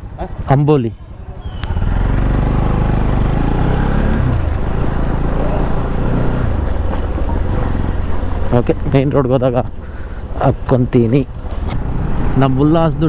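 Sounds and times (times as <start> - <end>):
motorcycle engine pulling away: 1.2 - 13.0.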